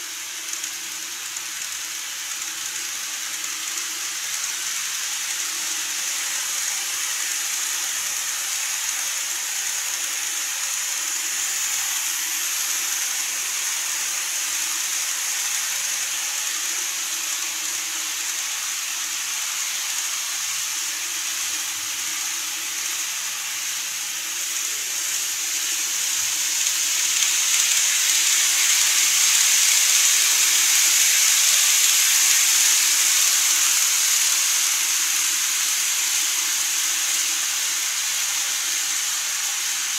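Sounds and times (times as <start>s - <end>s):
model train hissing on track: 0.0s - 39.9s.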